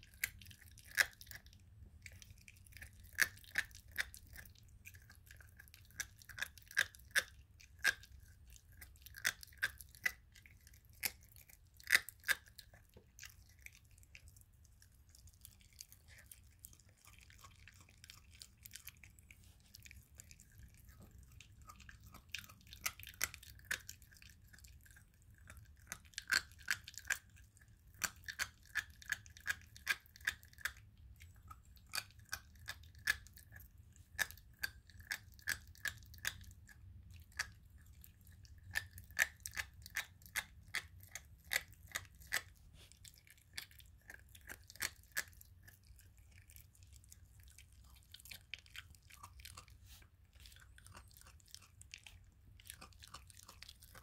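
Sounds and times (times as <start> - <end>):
puppy crunching bones: 0.0 - 54.0.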